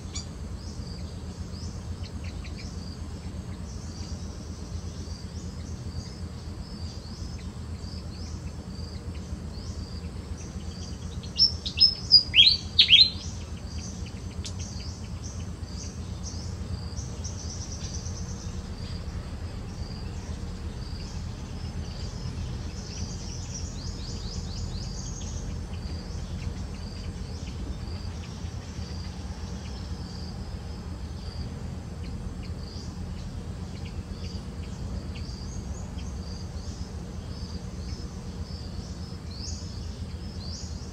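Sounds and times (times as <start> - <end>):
insects chirping: 0.0 - 40.9
low steady rumble: 0.0 - 40.9.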